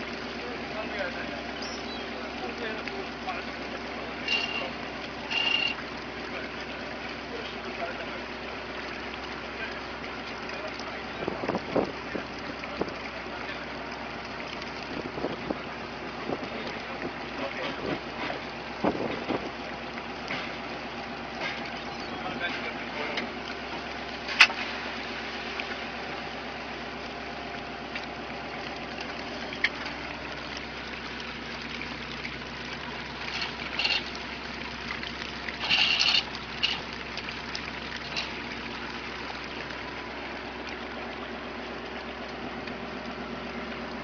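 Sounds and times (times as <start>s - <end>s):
boat engine running: 0.0s - 44.0s
water gushing and splashing: 0.0s - 44.0s.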